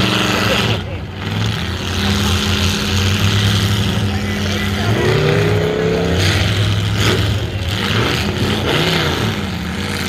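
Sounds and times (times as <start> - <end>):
car engines revving hard: 0.0 - 10.0.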